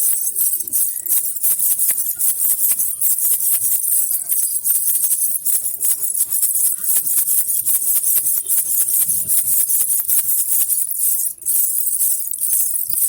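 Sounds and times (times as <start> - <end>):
baby rattle bells jingling: 0.0 - 13.0.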